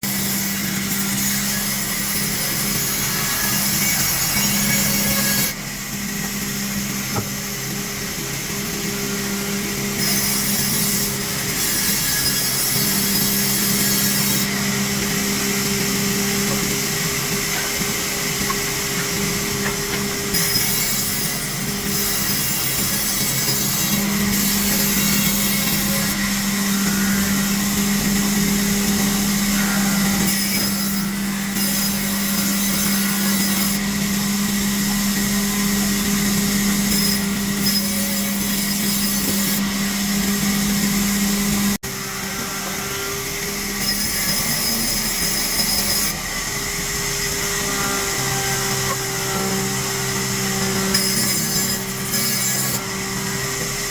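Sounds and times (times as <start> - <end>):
motor hum: 0.0 - 45.6
saw blade cutting timber: 0.0 - 53.9.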